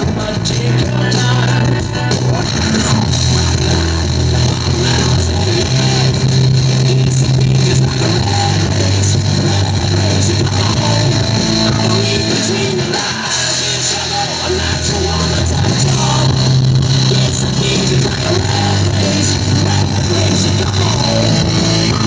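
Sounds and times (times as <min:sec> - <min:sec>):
rock music over loudspeaker: 0:00.0 - 0:22.0.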